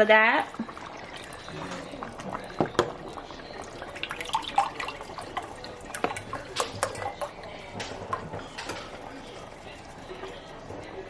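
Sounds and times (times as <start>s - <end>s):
liquid pouring and splashing: 0.0s - 11.0s.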